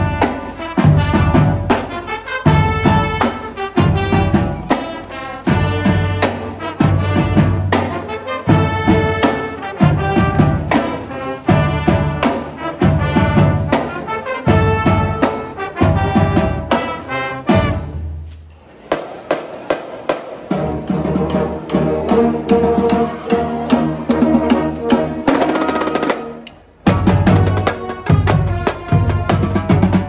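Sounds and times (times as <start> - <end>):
brass band playing punchy phrases: 0.0 - 30.0.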